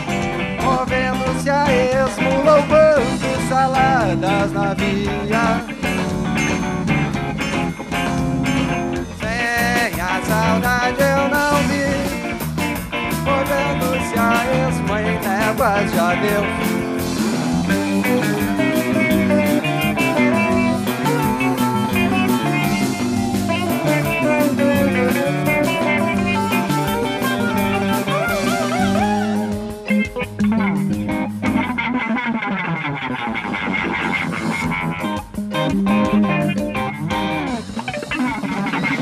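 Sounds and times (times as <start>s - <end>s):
bending guitar lead line: 0.0s - 39.0s
live rock band: 0.0s - 39.0s.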